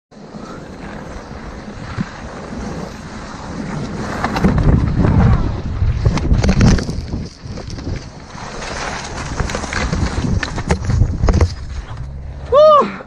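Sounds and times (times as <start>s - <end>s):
skis scraping on snow: 0.2s - 12.5s
wind rushing over microphone: 0.2s - 12.7s.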